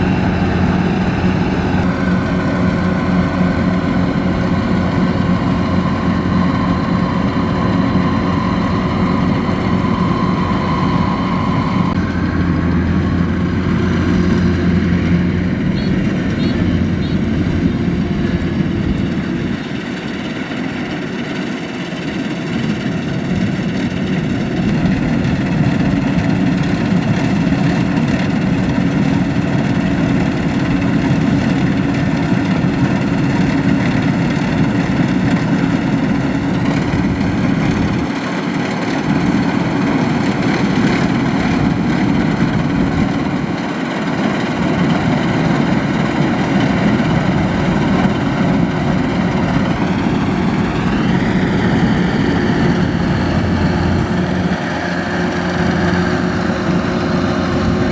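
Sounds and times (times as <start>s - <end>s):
combine harvester diesel engine running: 0.0s - 57.9s.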